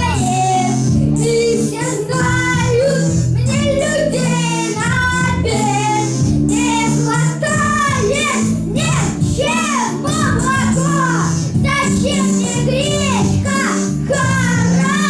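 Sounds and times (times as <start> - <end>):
backing track sustained notes: 0.0 - 15.0
children singing: 0.0 - 15.0.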